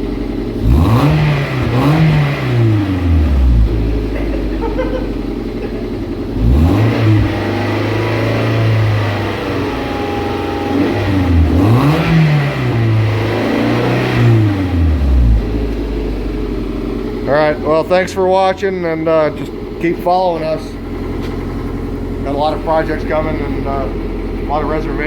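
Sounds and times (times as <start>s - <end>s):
engine revving: 0.0s - 25.0s
race car engine idling: 0.0s - 25.0s.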